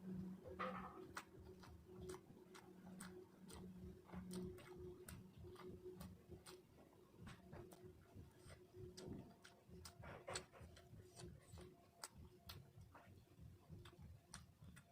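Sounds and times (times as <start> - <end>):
faint low hum: 0.0 - 14.9
mouth chewing food: 0.0 - 14.9.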